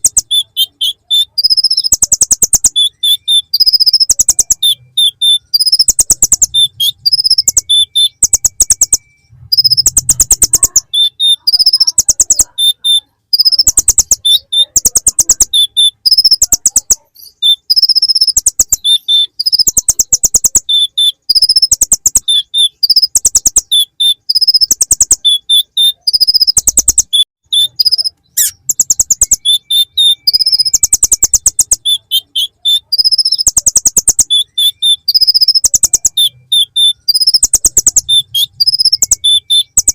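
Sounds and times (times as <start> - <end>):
bird singing rapid ticking trills: 0.0 - 39.9.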